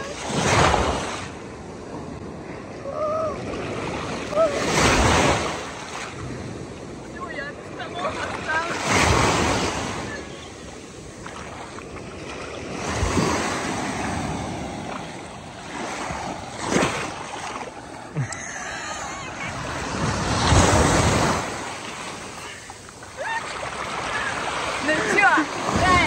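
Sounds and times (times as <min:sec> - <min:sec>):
waves breaking on shore: 0:00.0 - 0:26.0.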